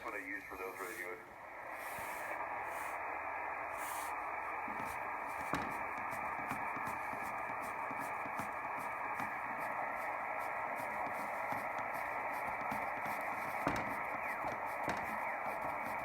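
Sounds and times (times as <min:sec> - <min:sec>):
radio band noise hiss: 0:00.0 - 0:16.0.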